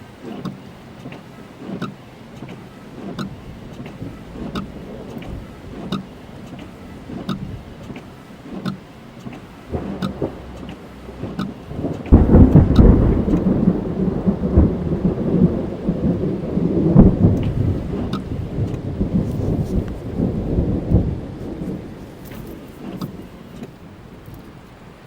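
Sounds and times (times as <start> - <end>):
rain on car roof: 0.0 - 25.0
raindrop ticks: 0.0 - 25.0
thunder rumbling: 2.6 - 25.0.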